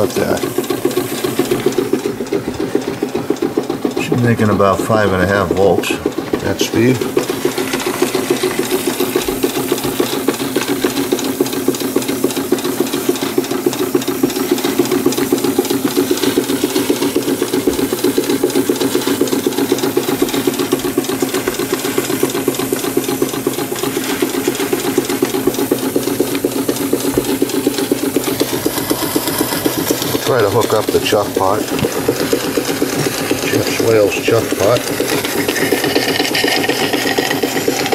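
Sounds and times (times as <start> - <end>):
steam engine exhaust beat: 0.0 - 37.9.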